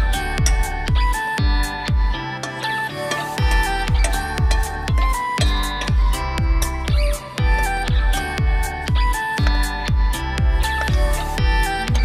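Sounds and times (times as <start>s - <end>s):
deep kick drum beat: 0.0s - 2.2s, 3.4s - 12.0s
held synth notes: 0.0s - 12.0s.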